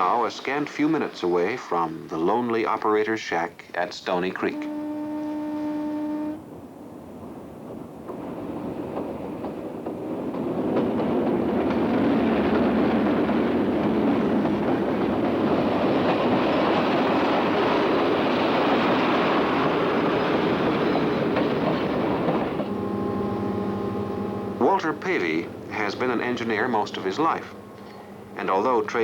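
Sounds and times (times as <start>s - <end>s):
passenger train running past: 0.0s - 29.0s.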